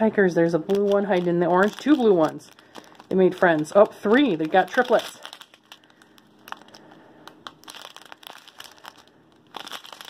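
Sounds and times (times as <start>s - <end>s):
plastic bags crinkling: 0.5s - 10.0s.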